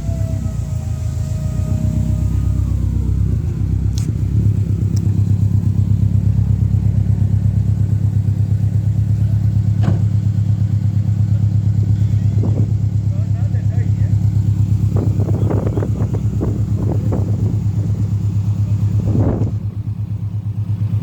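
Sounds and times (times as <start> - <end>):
car engine throbbing: 0.0 - 21.0.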